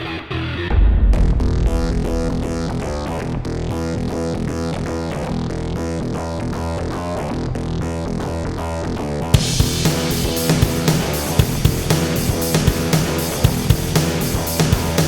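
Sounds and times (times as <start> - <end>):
steady low bass: 0.1 - 15.0.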